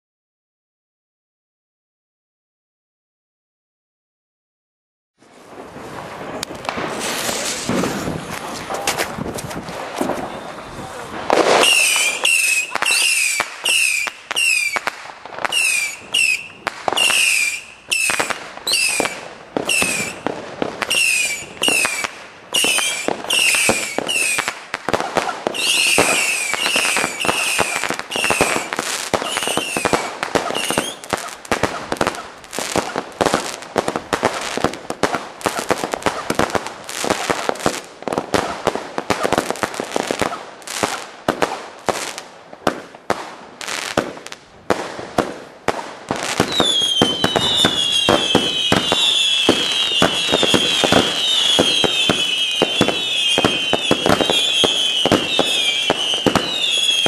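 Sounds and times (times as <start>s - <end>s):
firework cracks and pops: 5.2s - 57.0s
whistling firework shots: 6.0s - 57.0s.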